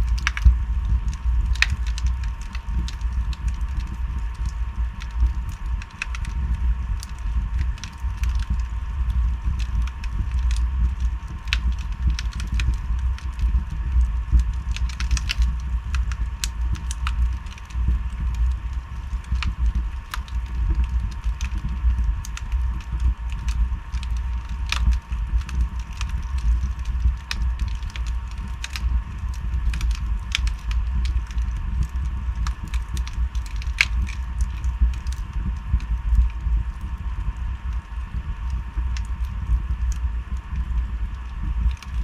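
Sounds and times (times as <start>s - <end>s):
logs crackling and popping: 0.0s - 42.0s
low fire rumble: 0.0s - 42.0s.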